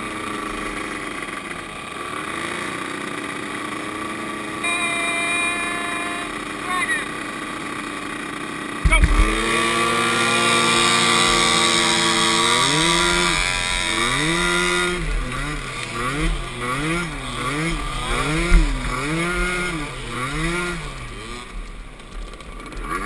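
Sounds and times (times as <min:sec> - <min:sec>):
small atv engine revving: 0:00.0 - 0:23.0.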